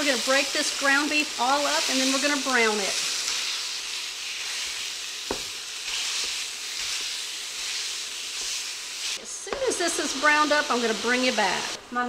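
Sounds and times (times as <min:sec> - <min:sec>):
meat and onions sizzling: 0:00.0 - 0:12.0.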